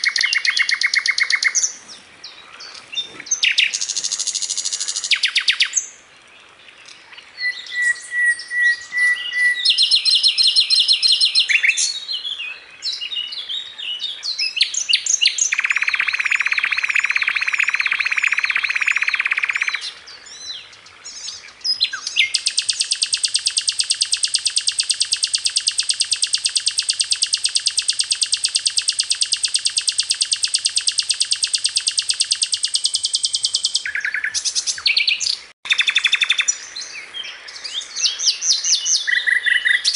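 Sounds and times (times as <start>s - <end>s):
flycatcher singing: 0.0s - 1.8s, 7.4s - 13.0s, 14.3s - 20.4s, 21.2s - 39.9s.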